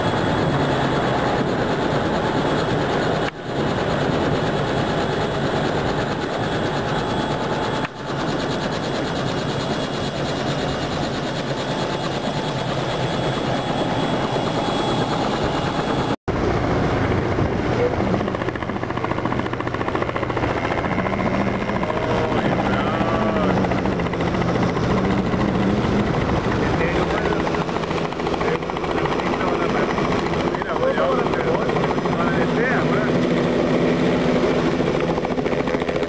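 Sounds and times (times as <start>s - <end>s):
helicopter turbine and rotors: 0.0s - 36.0s.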